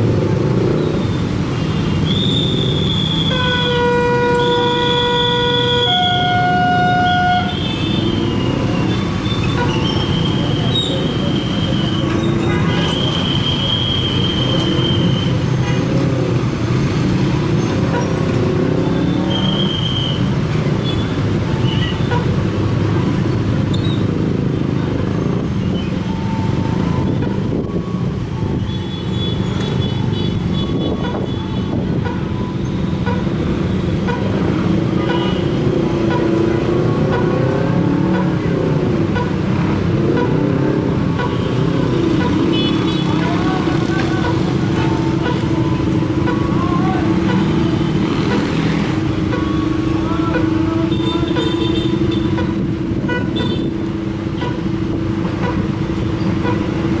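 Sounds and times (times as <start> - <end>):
motorcycle engines: 0.0 - 57.0.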